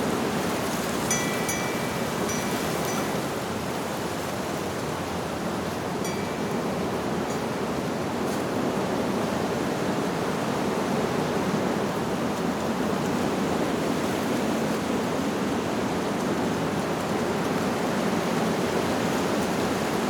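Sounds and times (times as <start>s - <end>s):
wind through leaves: 0.0s - 20.0s.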